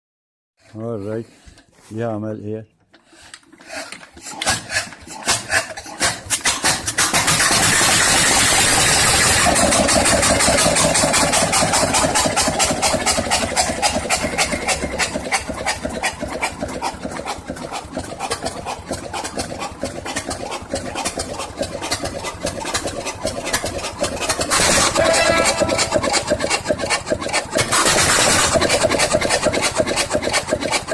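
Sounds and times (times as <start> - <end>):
diesel engine running: 4.0 - 30.9.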